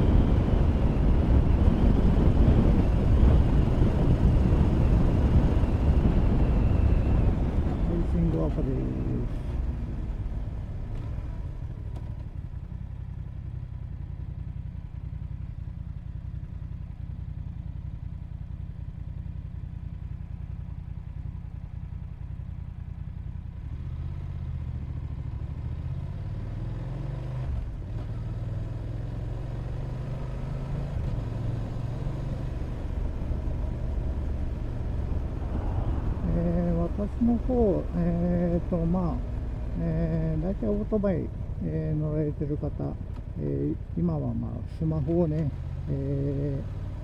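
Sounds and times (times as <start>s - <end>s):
motorcycle engine running: 0.0s - 47.0s
road and wind noise: 0.0s - 47.0s.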